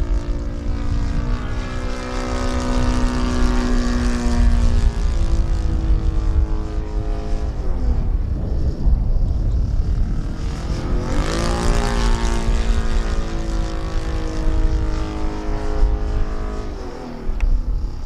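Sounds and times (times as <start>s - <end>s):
model plane engine: 0.0s - 18.0s.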